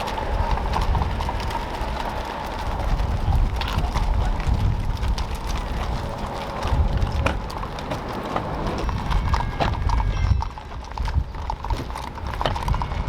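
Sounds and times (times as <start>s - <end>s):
horses hooves clip-clopping: 0.0s - 13.0s
low background rumble: 0.0s - 13.0s.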